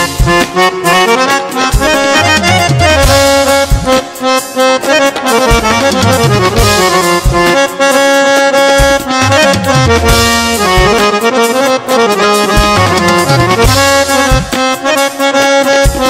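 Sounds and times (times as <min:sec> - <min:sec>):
harmonium melody: 0:00.0 - 0:16.0.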